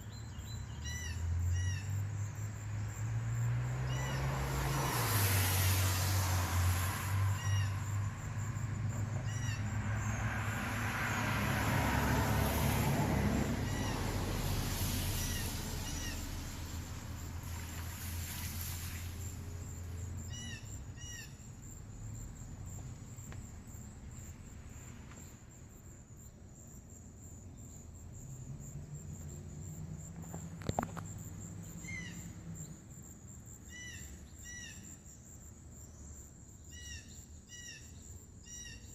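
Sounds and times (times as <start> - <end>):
road traffic passing: 0.0 - 36.9.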